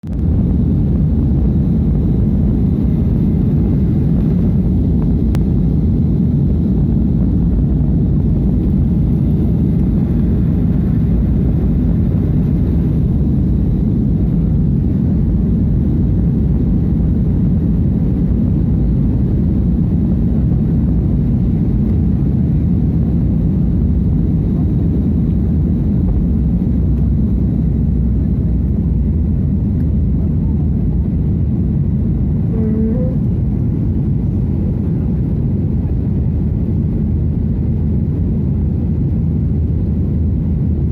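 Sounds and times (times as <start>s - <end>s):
jet engines rumbling: 0.0s - 40.9s.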